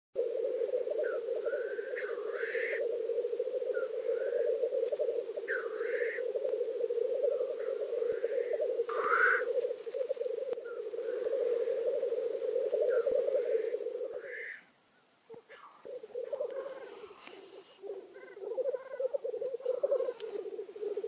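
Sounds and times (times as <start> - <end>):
grouse bubbling chorus: 0.2 - 14.7, 15.3 - 21.0
grouse hissing calls: 0.2 - 21.0.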